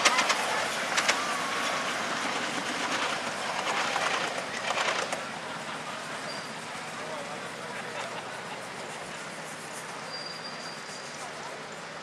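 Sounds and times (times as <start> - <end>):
train wheels clicking on rail joints: 0.0 - 12.0.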